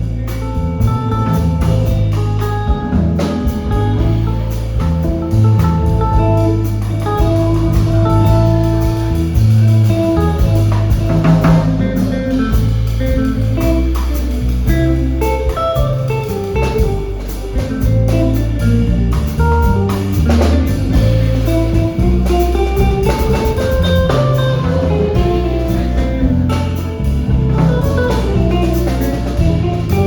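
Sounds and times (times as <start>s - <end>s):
bass: 0.0s - 30.0s
drum kit: 0.0s - 30.0s
guitar notes: 0.0s - 30.0s.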